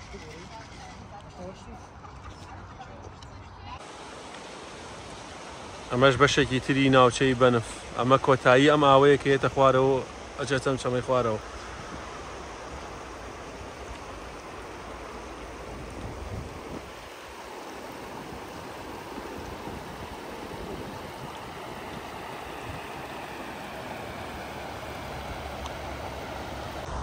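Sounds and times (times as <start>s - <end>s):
river water rushing: 3.8s - 27.0s.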